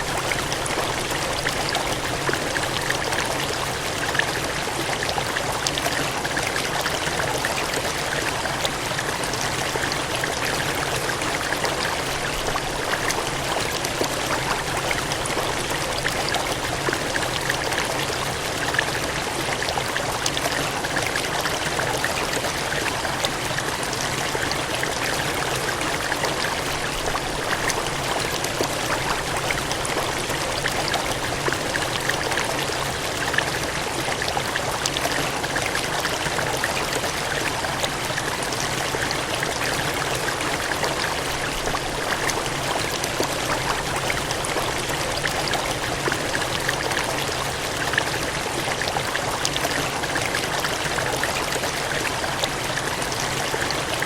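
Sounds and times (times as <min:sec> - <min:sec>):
water gushing and cascading: 0:00.0 - 0:54.0.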